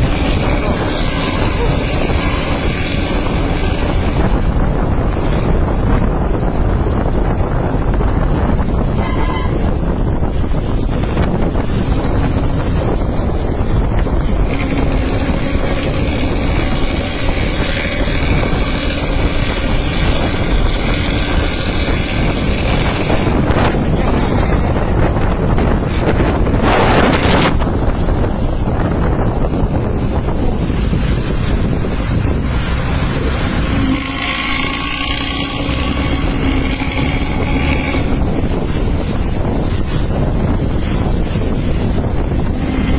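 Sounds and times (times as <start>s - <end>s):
bus engine droning: 0.0s - 42.9s
wind buffeting the microphone: 0.0s - 42.9s.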